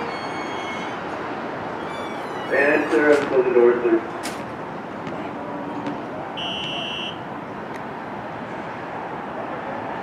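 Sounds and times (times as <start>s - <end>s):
subway station noise: 0.0s - 10.0s.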